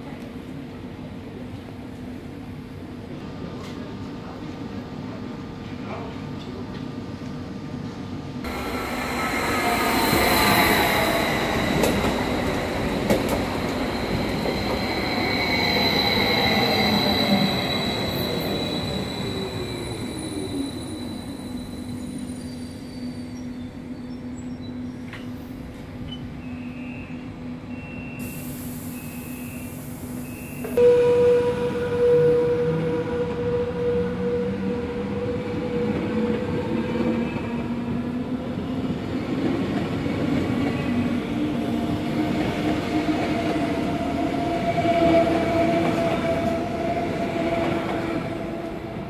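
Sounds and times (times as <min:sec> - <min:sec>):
train humming: 0:04.3 - 0:26.4, 0:27.2 - 0:49.0
electric train whine and squeal: 0:08.4 - 0:49.0.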